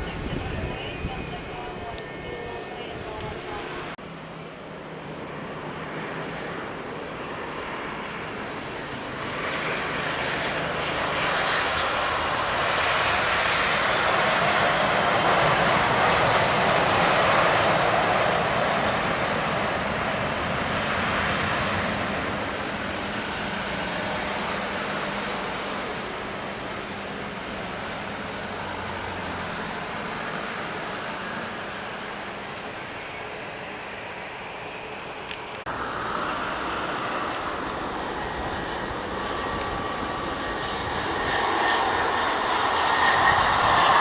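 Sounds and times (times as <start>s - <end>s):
jet airliner passing: 0.0s - 44.0s.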